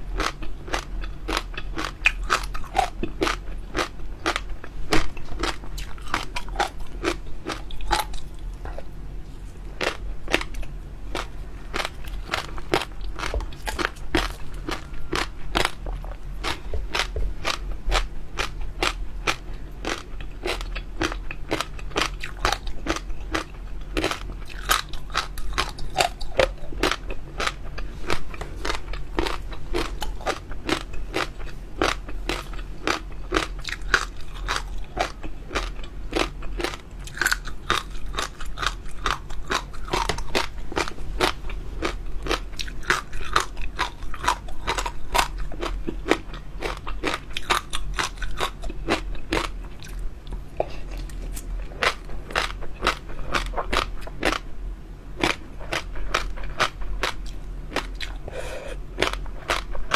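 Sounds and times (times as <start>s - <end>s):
crunchy food chewing: 0.0s - 54.5s, 55.2s - 59.9s
faint low hum: 0.0s - 59.9s.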